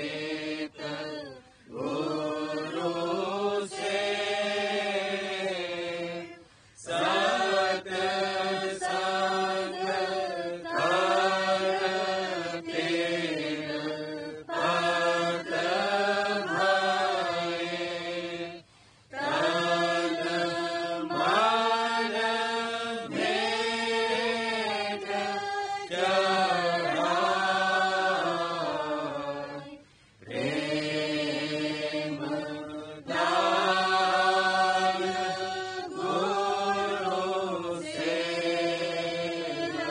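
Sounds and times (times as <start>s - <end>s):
devotional hymn chanting: 0.0s - 39.9s.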